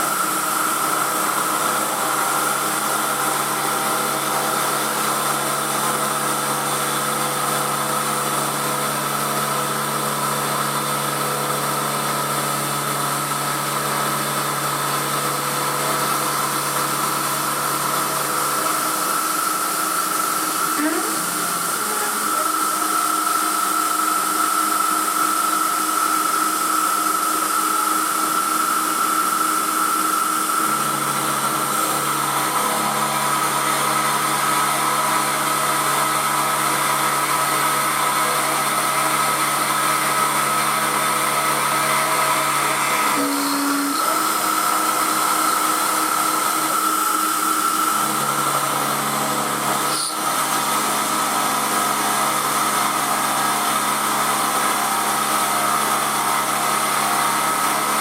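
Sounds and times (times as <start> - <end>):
cutter milling aluminium: 0.0 - 58.0
milling machine spindle whine: 0.0 - 58.0.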